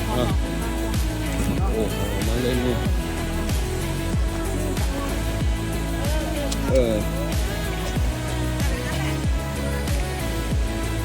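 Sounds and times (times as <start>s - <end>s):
repeating low drum: 0.0s - 10.8s
pop music with held notes: 0.0s - 11.0s.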